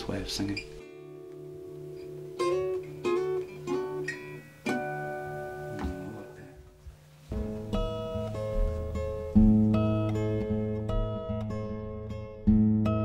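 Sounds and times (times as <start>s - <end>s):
acoustic guitar plucked slowly: 0.0s - 13.0s.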